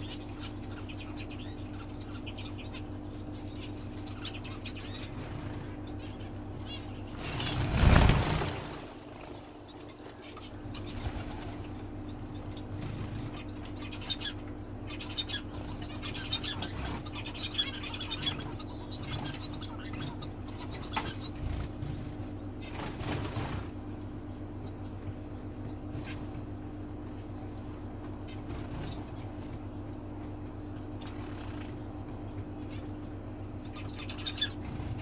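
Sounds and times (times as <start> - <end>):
finches chirping: 0.0 - 35.0
steady low hum: 0.0 - 35.0
small birds' wings flurry: 0.1 - 6.0, 6.9 - 35.0.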